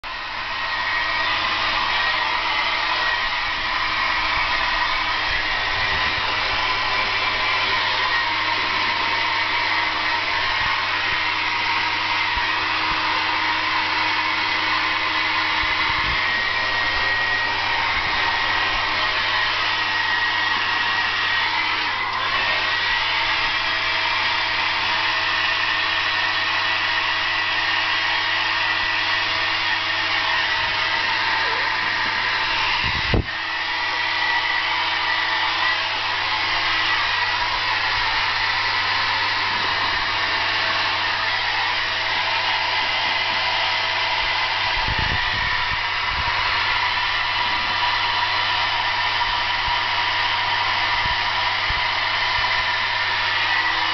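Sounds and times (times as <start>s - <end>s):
hair dryer blowing: 0.0s - 53.9s.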